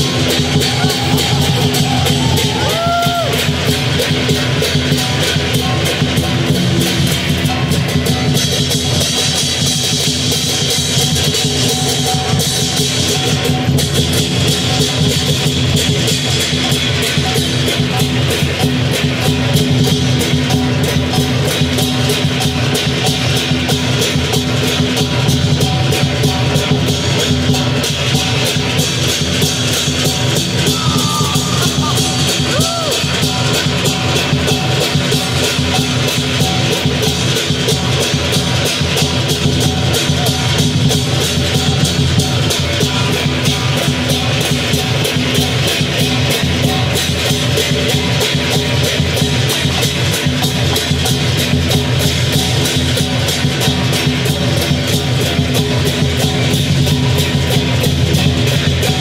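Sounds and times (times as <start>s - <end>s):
big drum beating: 0.0s - 59.0s
crash cymbals: 0.0s - 59.0s
gong: 0.0s - 59.0s.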